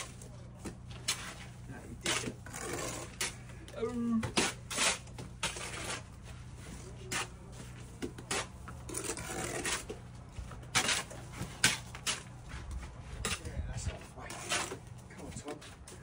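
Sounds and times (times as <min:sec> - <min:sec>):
trowel scraping mortar: 0:00.9 - 0:16.0.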